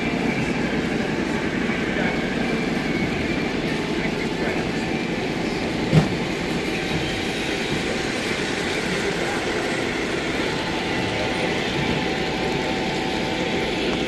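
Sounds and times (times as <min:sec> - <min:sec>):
toy train wheels rumbling on track: 0:00.0 - 0:14.0.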